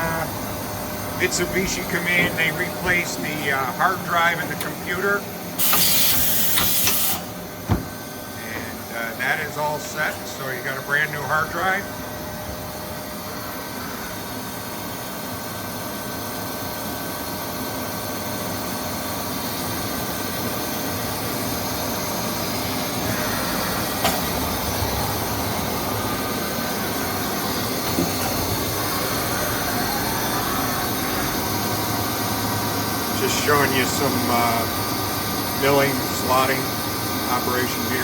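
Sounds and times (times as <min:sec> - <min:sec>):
air compressor droning: 0:00.0 - 0:38.0.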